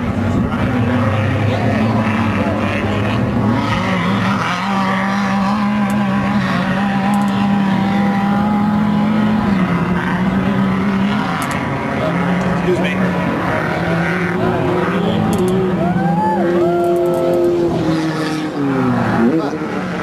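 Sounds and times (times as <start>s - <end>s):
race car engines running: 0.0s - 20.0s.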